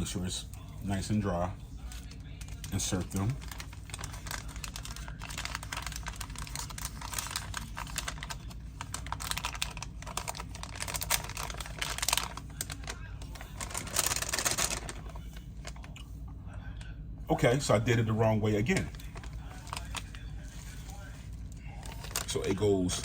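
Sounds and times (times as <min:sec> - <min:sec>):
plastic pouch crinkling: 0:01.8 - 0:16.0, 0:18.6 - 0:23.0.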